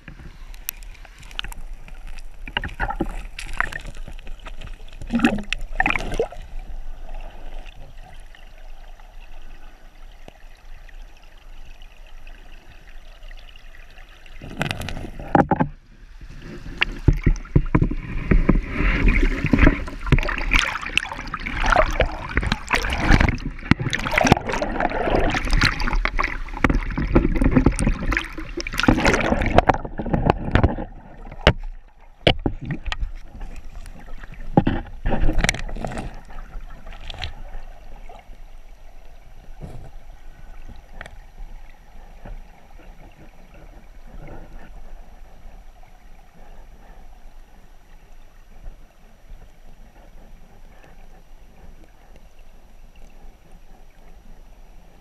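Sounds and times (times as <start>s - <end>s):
creek water sloshing and bubbling: 0.0s - 55.0s
water splashing and gurgling: 0.0s - 55.0s.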